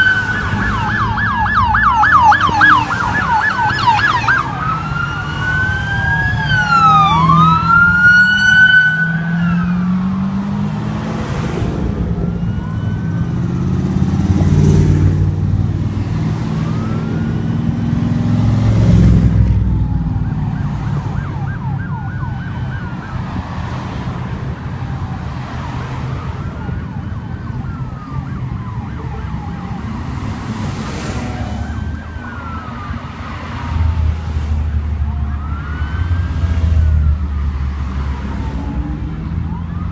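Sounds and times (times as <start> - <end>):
emergency siren wailing: 0.0 - 39.9
traffic rumble: 0.0 - 39.9.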